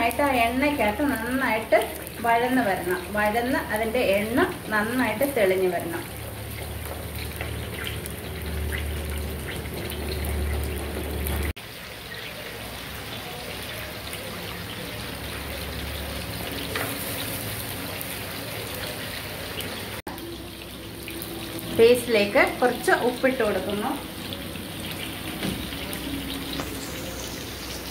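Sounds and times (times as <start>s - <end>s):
paste sizzling in hot oil: 0.0s - 27.9s.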